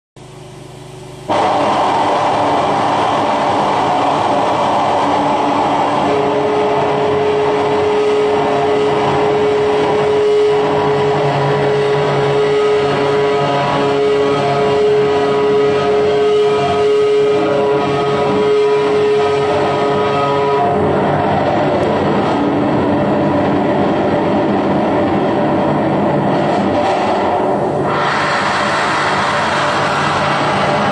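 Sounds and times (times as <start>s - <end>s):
distorted noise music: 0.2s - 30.9s
drone tones: 1.2s - 30.9s.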